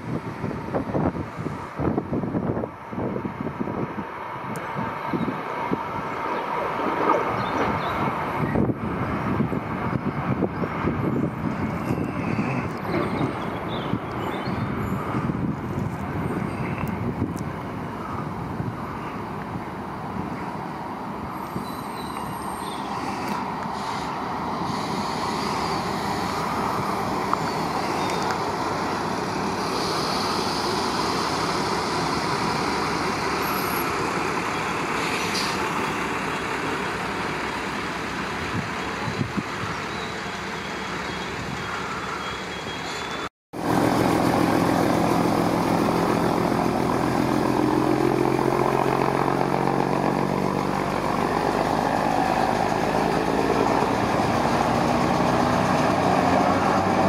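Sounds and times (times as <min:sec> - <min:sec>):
diesel railcar engine approaching: 0:00.0 - 0:57.0
railcar rumbling along rails: 0:00.0 - 0:57.0.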